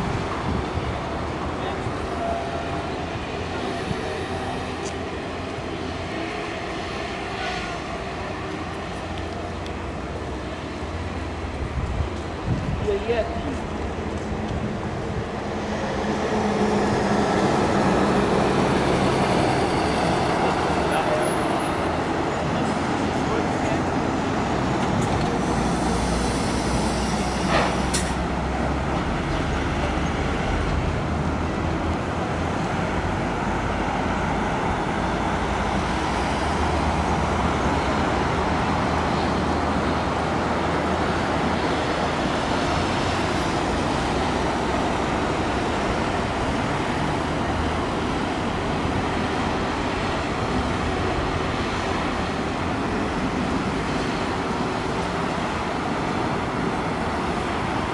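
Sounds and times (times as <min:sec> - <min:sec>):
constant broad noise: 0:00.0 - 0:57.9.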